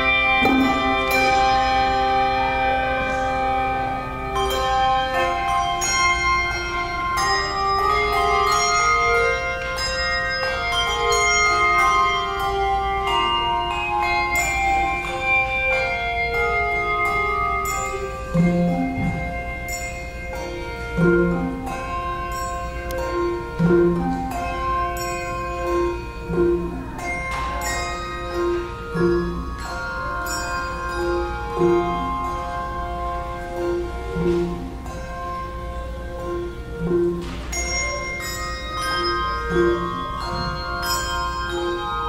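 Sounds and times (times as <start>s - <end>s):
handbell choir ringing: 0.0s - 42.0s.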